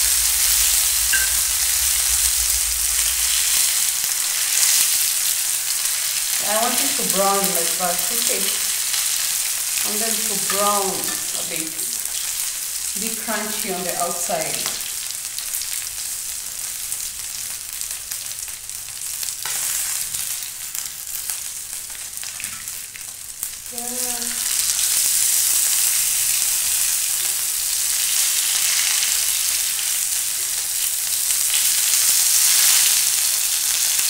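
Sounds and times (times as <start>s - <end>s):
potatoes sizzling in oil: 0.0s - 34.0s.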